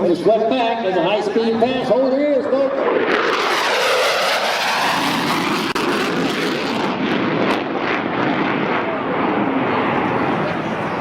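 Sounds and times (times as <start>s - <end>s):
jet roaring past: 0.0s - 11.0s.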